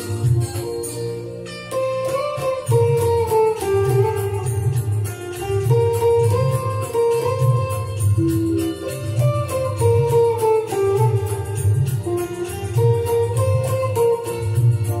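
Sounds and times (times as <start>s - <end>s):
backing track with pulsing bass: 0.0s - 15.0s
electric guitar melody: 0.0s - 15.0s.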